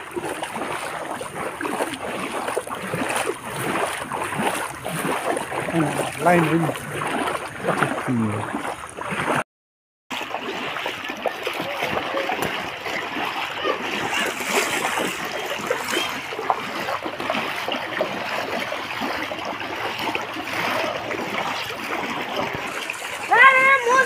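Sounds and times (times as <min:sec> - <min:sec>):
feet splashing through water: 0:00.0 - 0:09.4, 0:10.1 - 0:24.0.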